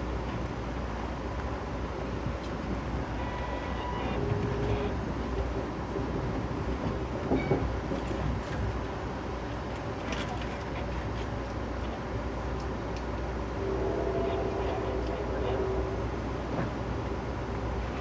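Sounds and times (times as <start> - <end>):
train car rolling on rails: 0.0 - 18.0.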